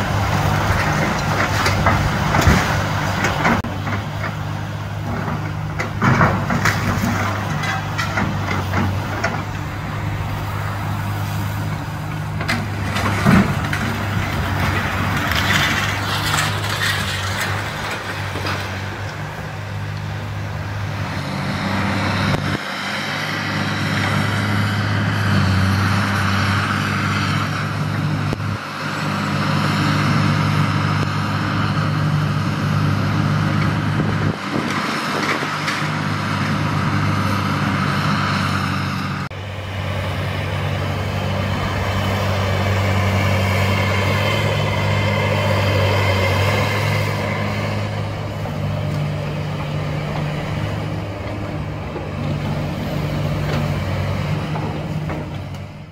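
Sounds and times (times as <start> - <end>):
excavator diesel engine droning: 0.0 - 55.9.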